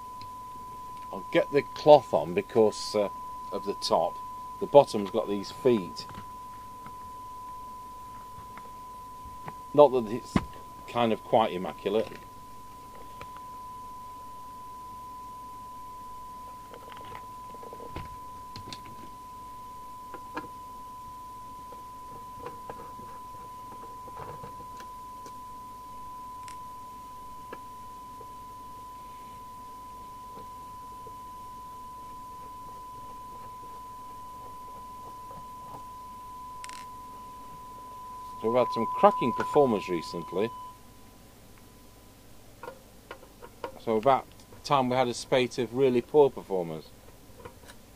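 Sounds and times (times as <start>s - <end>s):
steady test tone: 0.0s - 41.2s.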